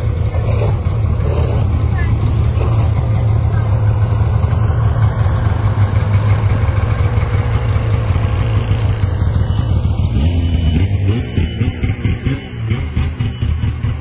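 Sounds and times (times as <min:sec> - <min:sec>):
engine running loudly: 0:00.0 - 0:14.0.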